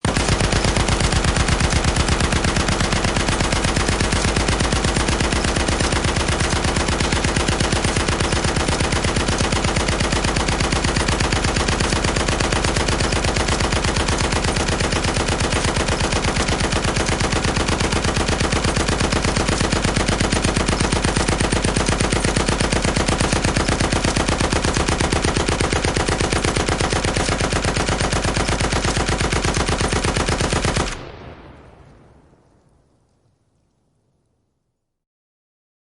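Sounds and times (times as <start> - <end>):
heavy machine gun firing: 0.0 - 32.1.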